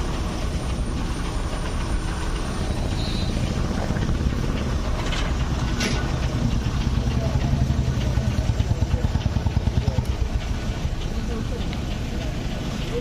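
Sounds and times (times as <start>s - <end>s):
street noise: 0.0s - 13.0s
vehicle engine idling: 0.0s - 13.0s.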